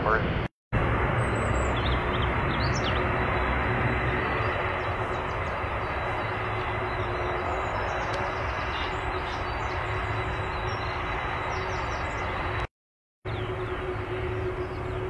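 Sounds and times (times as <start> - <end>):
jet engines rumbling: 0.0 - 12.7, 13.3 - 15.0.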